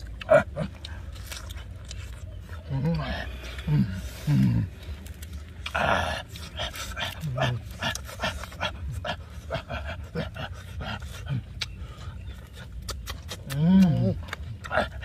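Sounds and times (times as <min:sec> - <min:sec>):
wet smacking and chewing: 0:00.0 - 0:15.0.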